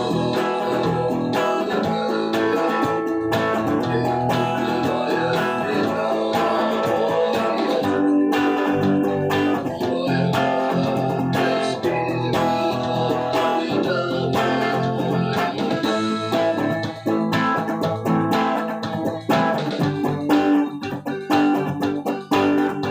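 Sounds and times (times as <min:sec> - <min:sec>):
guitar melody: 0:00.0 - 0:22.9.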